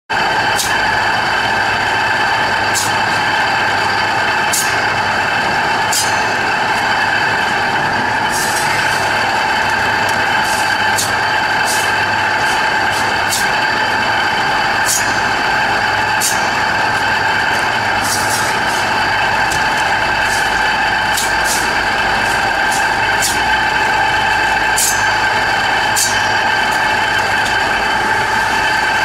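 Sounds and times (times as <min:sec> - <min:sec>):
meat slicer whining: 0:00.1 - 0:29.0.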